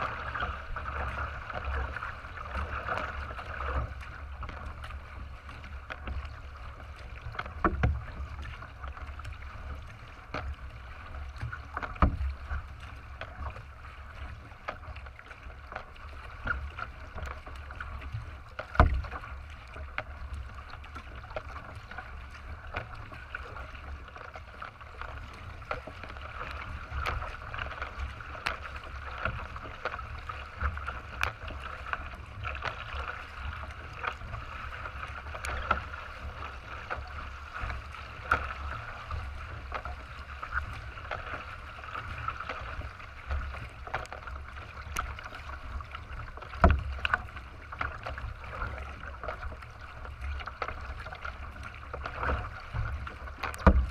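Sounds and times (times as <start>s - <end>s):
water splashing along kayak hull: 0.0s - 53.9s.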